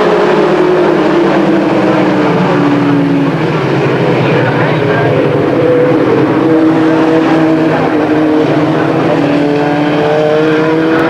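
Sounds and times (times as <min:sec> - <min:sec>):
racing truck engines passing: 0:00.0 - 0:11.0.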